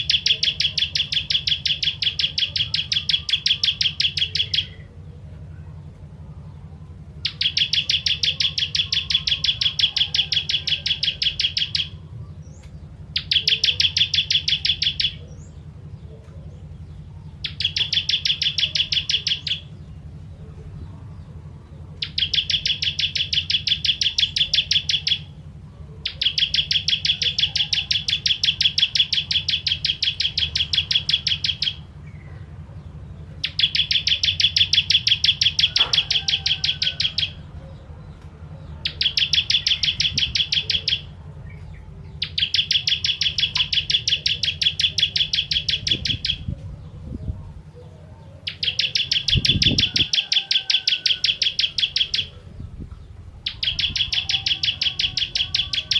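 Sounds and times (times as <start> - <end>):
bird singing rapid high notes: 0.0 - 5.1, 5.8 - 20.3, 21.0 - 47.7, 48.4 - 55.9
steady low hum: 0.0 - 55.9.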